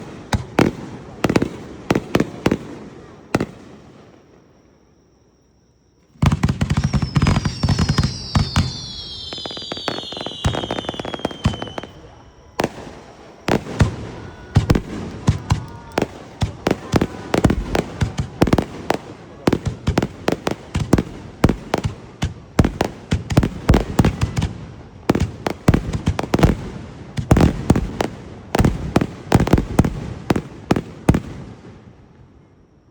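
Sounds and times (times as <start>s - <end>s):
fireworks bangs and crackling: 0.0s - 4.6s, 6.0s - 32.6s
fireworks whistles falling in pitch: 0.0s - 32.9s.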